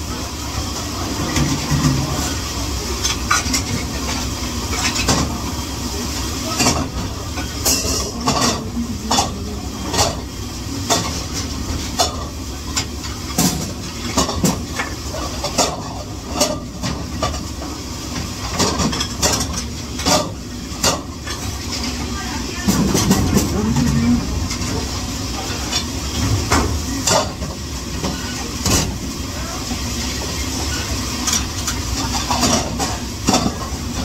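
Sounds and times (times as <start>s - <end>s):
low hum and hiss: 0.0s - 34.0s
dishes and utensils clattering: 1.2s - 5.4s, 6.4s - 17.6s, 18.2s - 29.0s, 30.6s - 34.0s.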